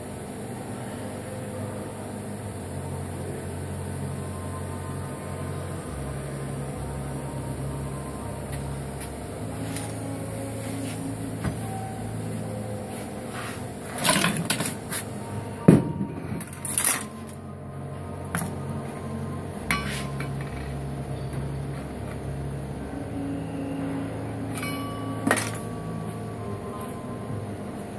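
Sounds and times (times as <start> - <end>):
machine hum: 0.0 - 27.9.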